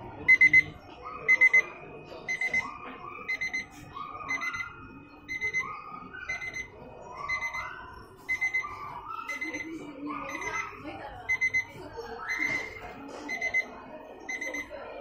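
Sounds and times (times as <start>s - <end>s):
alarm clock beeping: 0.2s - 15.0s.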